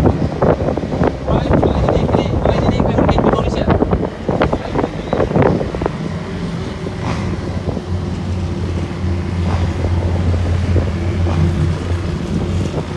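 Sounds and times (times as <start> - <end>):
motorcycle engine humming: 0.0 - 12.9
wind buffeting microphone: 0.0 - 12.9.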